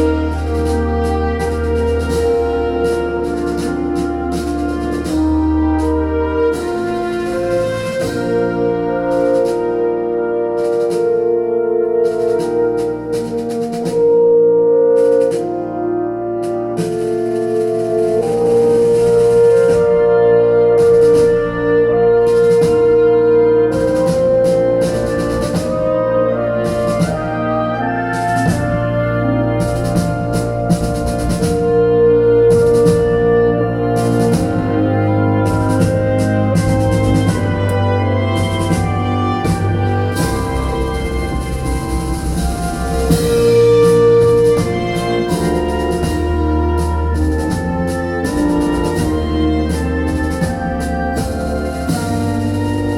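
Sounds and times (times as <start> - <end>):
instrumental keyboard music: 0.0 - 52.9
steady bass line: 0.0 - 52.9.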